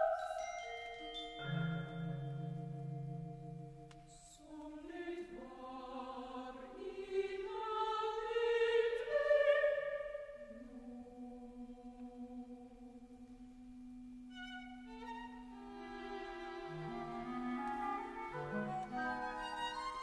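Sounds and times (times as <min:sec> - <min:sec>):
choir and orchestra music: 0:00.0 - 0:12.8, 0:14.3 - 0:20.0.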